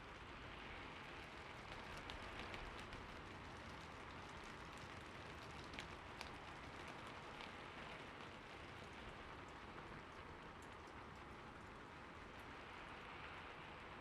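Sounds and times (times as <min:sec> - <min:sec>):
light rain hissing: 0:00.0 - 0:14.0
raindrops ticking: 0:01.0 - 0:13.5.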